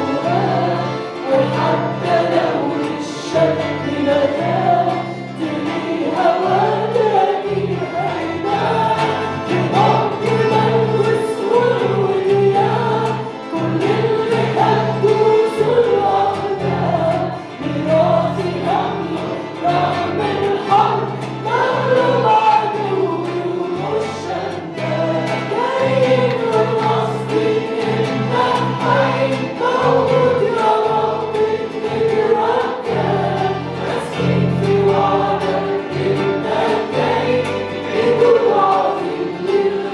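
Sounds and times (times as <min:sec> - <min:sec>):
group singing a hymn: 0:00.0 - 0:39.9
instrumental accompaniment with bass: 0:00.0 - 0:39.9.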